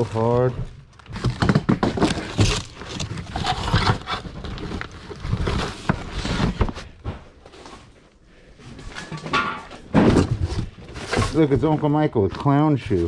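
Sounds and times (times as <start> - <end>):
rummaging through belongings: 0.0 - 13.0.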